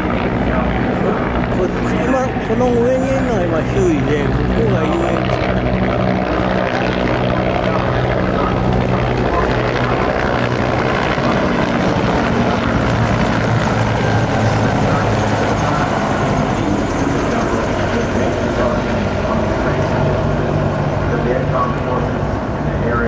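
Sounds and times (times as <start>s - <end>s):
helicopters flying overhead: 0.0s - 23.0s.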